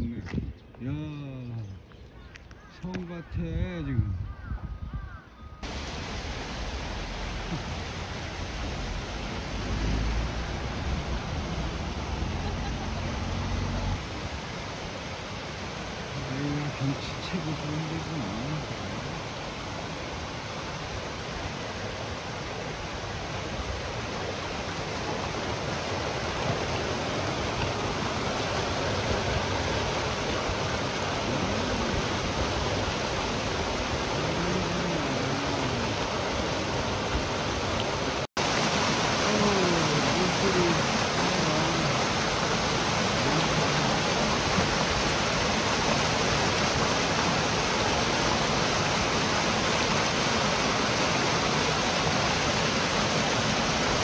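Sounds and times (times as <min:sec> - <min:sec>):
stream rushing over boulders: 0:05.6 - 0:54.0.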